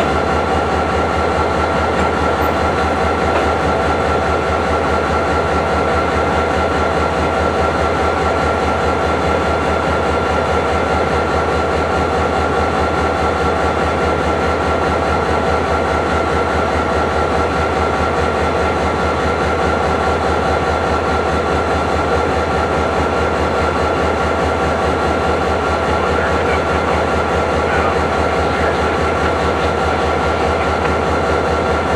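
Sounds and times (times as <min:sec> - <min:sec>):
freight train rumbling: 0:00.0 - 0:31.9.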